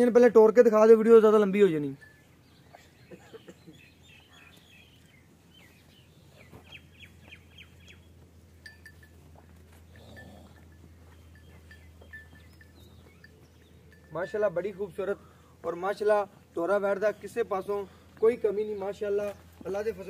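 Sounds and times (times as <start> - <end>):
low steady hum: 1.8 - 20.0
small birds chirping: 1.8 - 20.0.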